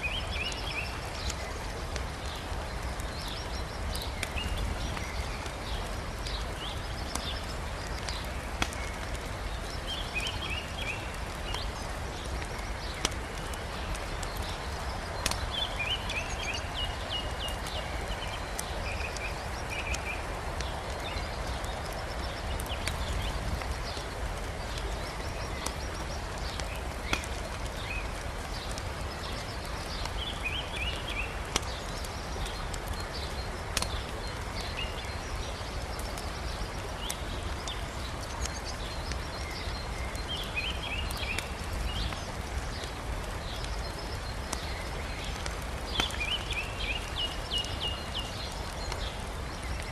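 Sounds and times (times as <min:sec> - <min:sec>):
campfire crackling: 0:00.0 - 0:49.9
river rushing: 0:00.0 - 0:49.9.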